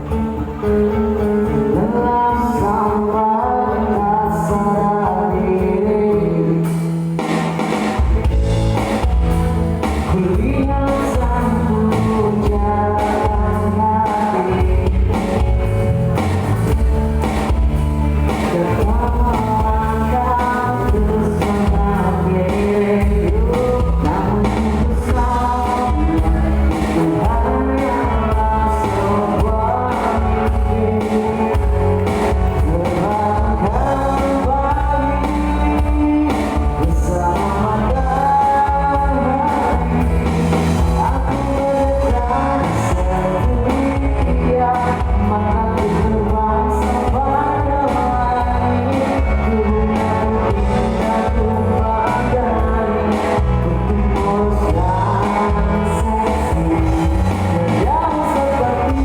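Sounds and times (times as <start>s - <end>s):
live pop band playing: 0.0s - 59.0s
person singing lead vocals: 0.0s - 59.0s.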